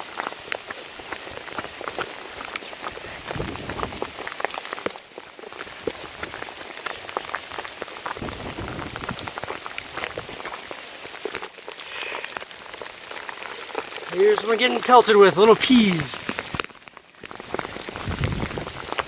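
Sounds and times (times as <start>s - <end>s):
hail pelting down: 0.2s - 19.0s.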